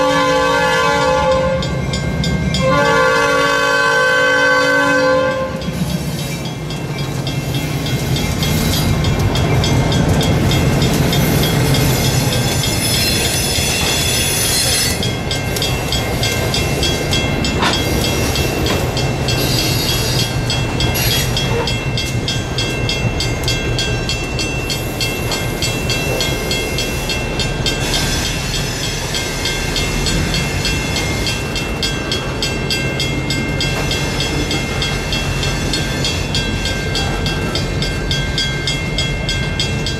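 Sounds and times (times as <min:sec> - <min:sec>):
diesel locomotive rumble: 0:00.0 - 0:39.9
wheels clicking over rail joints: 0:05.6 - 0:39.9.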